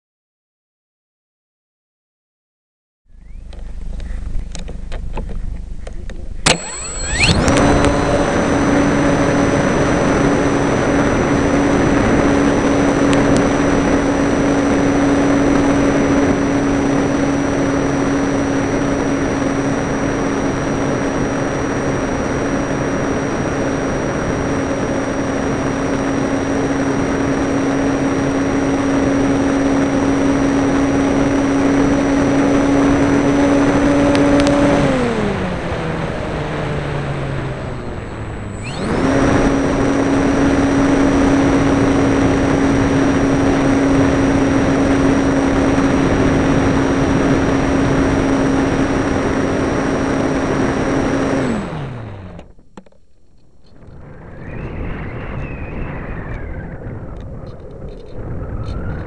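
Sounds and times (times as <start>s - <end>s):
electric motor and propeller hum: 3.1s - 59.0s.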